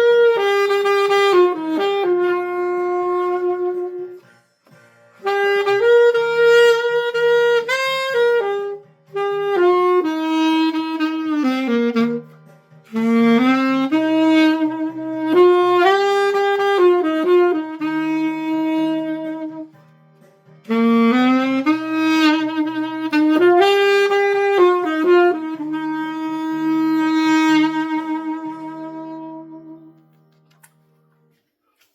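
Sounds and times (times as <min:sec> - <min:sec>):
alto saxophone melody: 0:00.0 - 0:04.3, 0:05.2 - 0:19.8, 0:20.6 - 0:30.2
soft backing track: 0:00.0 - 0:31.9.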